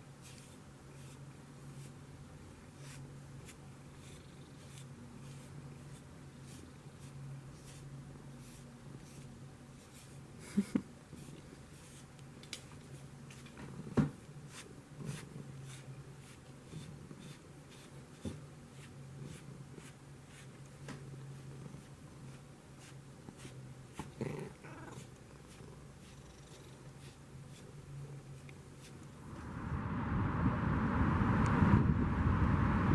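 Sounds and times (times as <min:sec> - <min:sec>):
brush combing through fur: 0:00.1 - 0:29.2.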